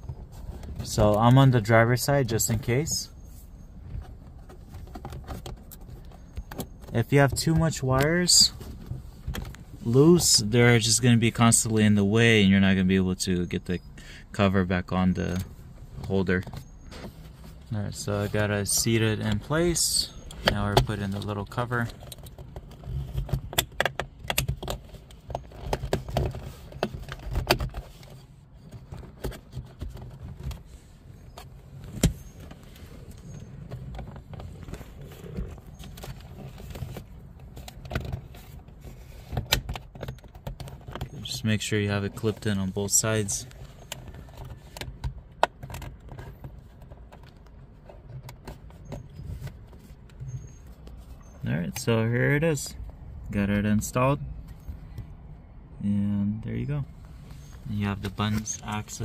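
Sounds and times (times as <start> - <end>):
hard plastic clicking and rubbing: 0.0 - 10.5, 15.2 - 55.2
low steady rumble: 0.0 - 59.0.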